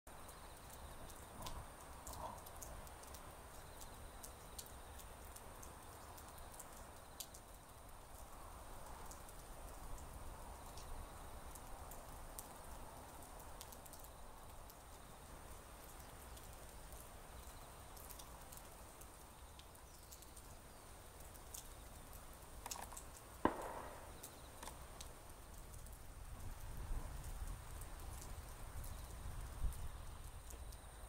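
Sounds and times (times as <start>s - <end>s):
raindrops tapping: 0.1s - 31.0s.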